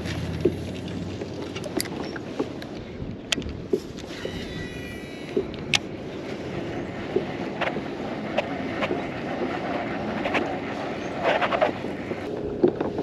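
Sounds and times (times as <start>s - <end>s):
water against kayak hull: 0.0s - 13.0s
wind buffeting microphone: 0.0s - 13.0s.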